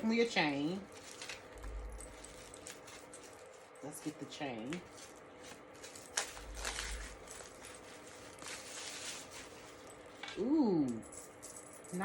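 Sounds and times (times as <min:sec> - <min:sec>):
packaging rustling and crackling: 0:00.5 - 0:10.4.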